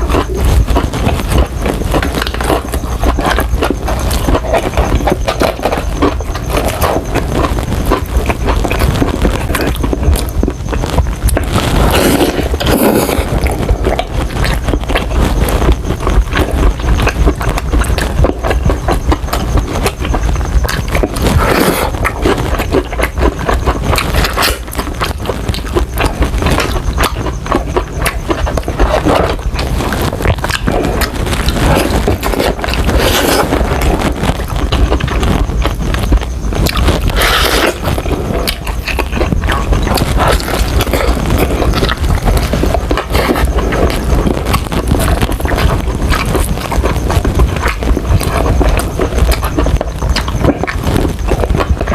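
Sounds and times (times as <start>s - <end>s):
crunchy chewing of fried chicken: 0.0s - 51.9s
mouth noises: 0.0s - 51.9s.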